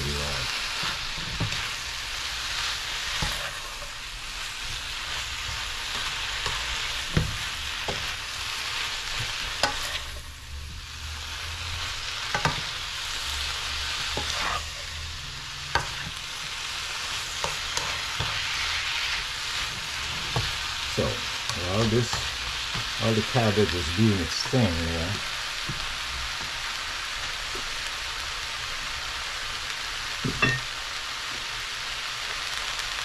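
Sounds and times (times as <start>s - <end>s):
vegetables sizzling in a frying pan: 0.0s - 33.0s.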